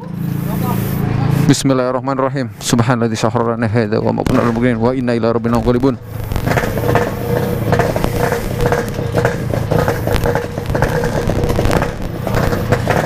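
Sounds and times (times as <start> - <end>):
motorcycle engine with crackles: 0.0 - 1.5, 2.7 - 13.0.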